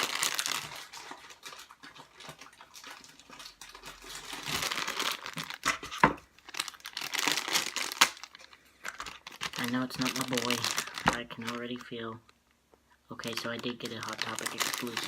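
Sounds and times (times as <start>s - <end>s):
packaging crinkling and tearing: 0.0s - 12.3s, 13.1s - 15.0s.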